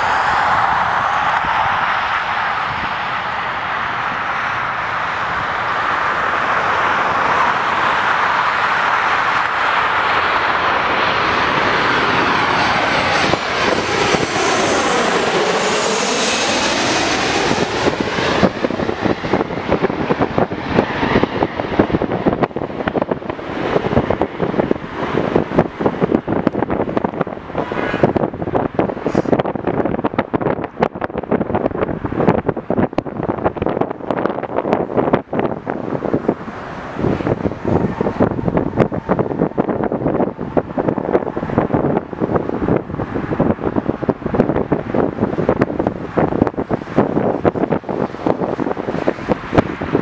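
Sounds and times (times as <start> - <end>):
jet engines rushing overhead: 0.0 - 50.0
wind buffeting microphone: 0.0 - 50.0.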